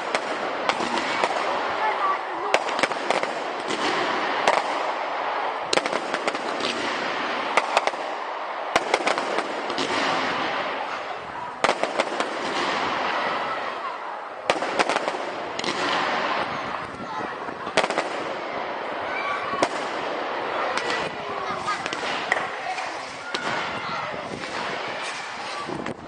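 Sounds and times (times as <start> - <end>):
firework bangs: 0.0 - 26.0
fireworks crackling: 0.0 - 26.0.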